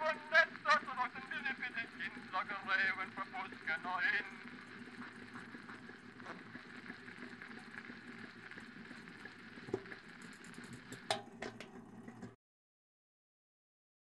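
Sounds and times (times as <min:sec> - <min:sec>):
phonograph crackle and hiss: 0:00.0 - 0:12.4.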